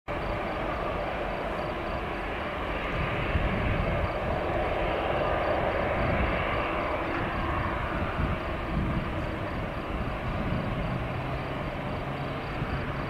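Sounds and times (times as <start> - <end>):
jet engines idling: 0.1 - 13.0.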